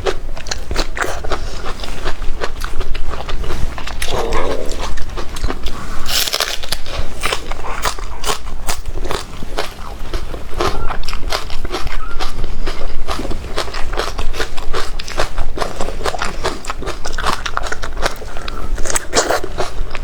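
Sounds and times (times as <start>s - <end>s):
crunching and chewing food: 0.0s - 20.0s.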